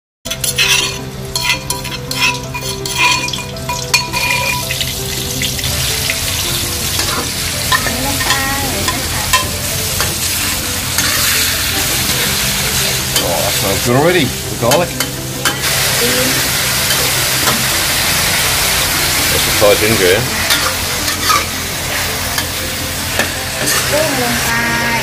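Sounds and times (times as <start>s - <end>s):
meat sizzling in a wok: 0.3s - 25.0s.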